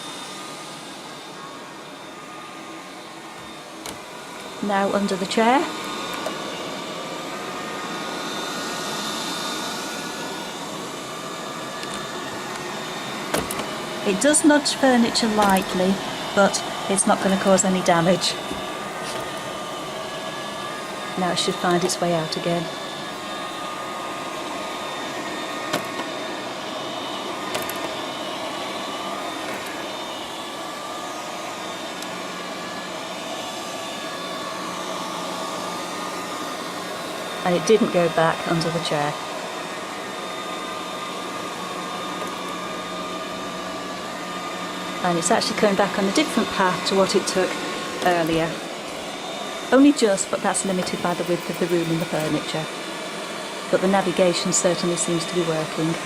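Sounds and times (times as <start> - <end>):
robot vacuum cleaner running: 0.0 - 56.0.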